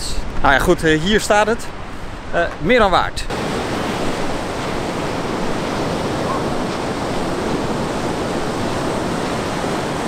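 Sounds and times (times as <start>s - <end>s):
ocean waves on a beach: 0.0s - 10.0s.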